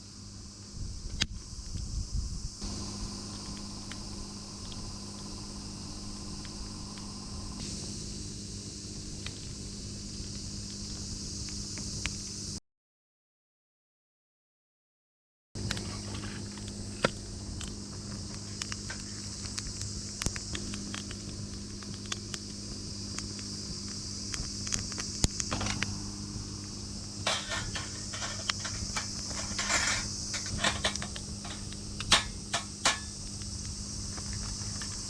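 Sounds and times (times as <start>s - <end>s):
high-pitched hiss: 0.0s - 12.6s, 15.6s - 35.0s
low hum: 0.4s - 10.4s, 15.7s - 35.0s
wood fire crackling: 2.5s - 12.3s, 15.6s - 35.0s.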